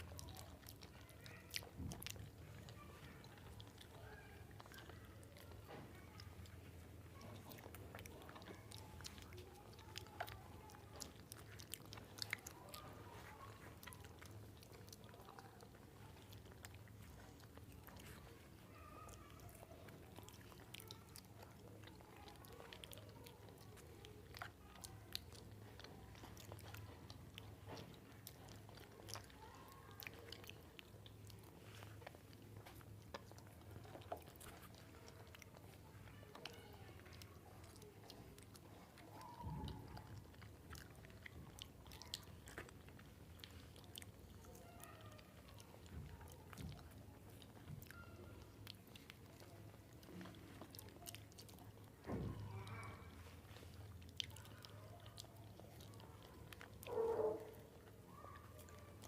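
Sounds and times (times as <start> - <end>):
wet chewing and biting: 0.0 - 59.0.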